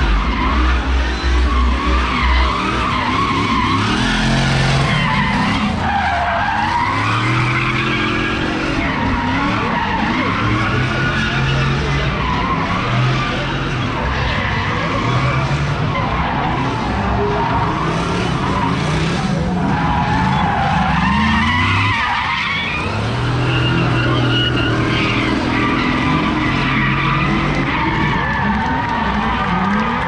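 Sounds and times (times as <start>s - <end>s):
car engine revving: 0.0s - 30.0s
tyres skidding: 0.0s - 30.0s.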